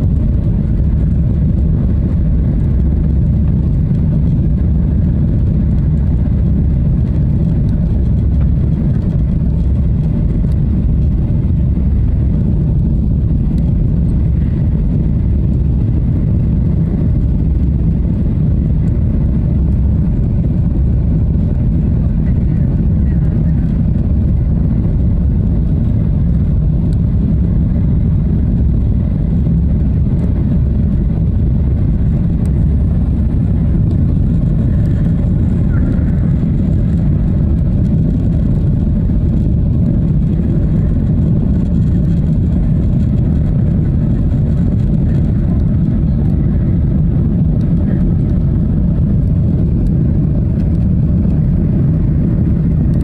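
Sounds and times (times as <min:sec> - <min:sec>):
airplane engine noise: 0:00.0 - 0:53.0
rushing airflow: 0:00.0 - 0:53.0.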